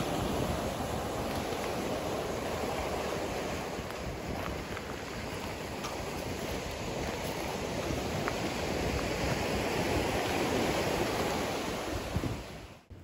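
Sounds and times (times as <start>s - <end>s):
small waves breaking on shore: 0.0s - 12.9s.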